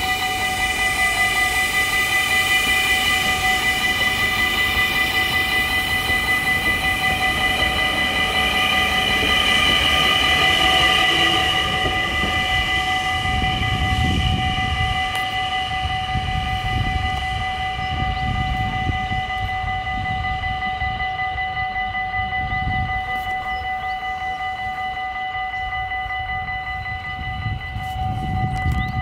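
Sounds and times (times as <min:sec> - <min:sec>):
electric train passing: 0:00.0 - 0:29.0
level-crossing warning bell: 0:00.0 - 0:29.0
rail noise: 0:00.0 - 0:29.0.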